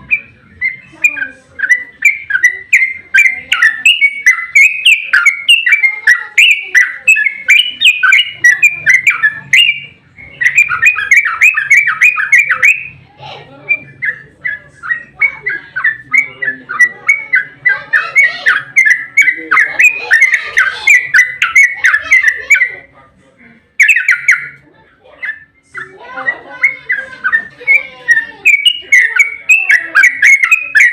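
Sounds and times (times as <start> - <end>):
bird chattering song: 0.0 - 23.0, 23.7 - 30.9.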